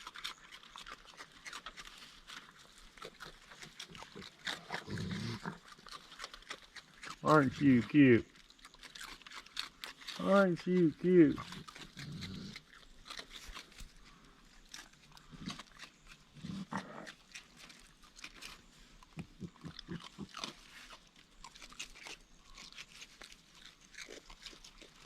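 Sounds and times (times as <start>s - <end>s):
raccoons crunching cereal: 0.0s - 25.0s.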